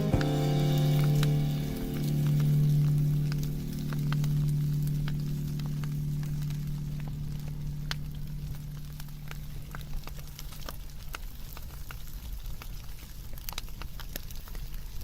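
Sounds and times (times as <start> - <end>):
low steady hum: 0.0 - 13.1
wood fire crackling: 0.0 - 15.0.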